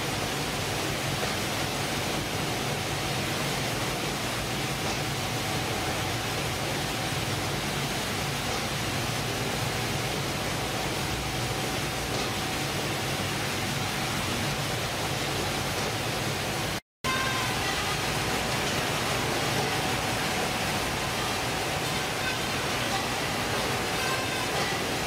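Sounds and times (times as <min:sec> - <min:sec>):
processing machinery running: 0:00.0 - 0:25.0.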